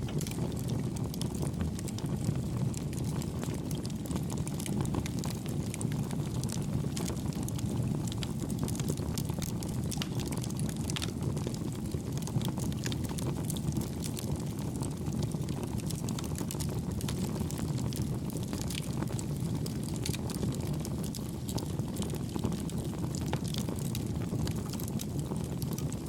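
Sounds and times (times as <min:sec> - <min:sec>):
flame rumble: 0:00.0 - 0:26.0
wood crackling and popping: 0:00.0 - 0:26.0.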